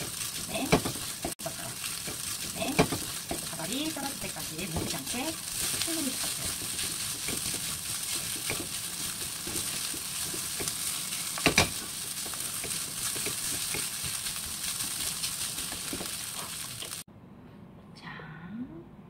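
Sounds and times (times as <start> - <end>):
spatula scraping a pan: 0.0 - 17.0
food sizzling in a wok: 0.0 - 17.1.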